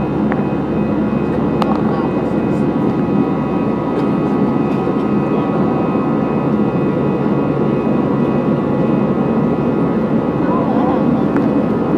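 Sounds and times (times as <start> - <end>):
airplane engines rumbling: 0.0 - 11.9
thin steady whining tones: 0.0 - 11.9.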